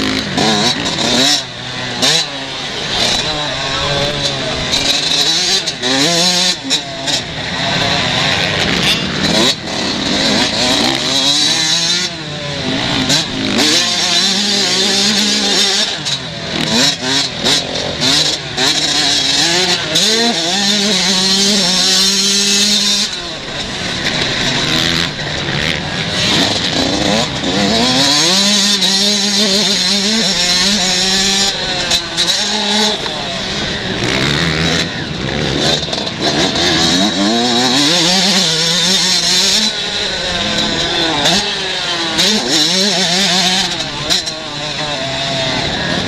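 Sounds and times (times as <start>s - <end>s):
motocross bikes revving: 0.0s - 46.0s.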